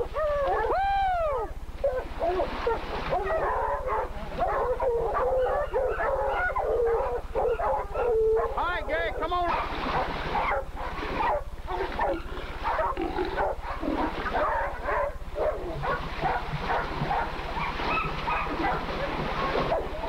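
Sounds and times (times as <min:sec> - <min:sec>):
dogs barking and yelping: 0:00.0 - 0:08.8, 0:09.4 - 0:20.0
steady low tape hum: 0:00.0 - 0:20.0.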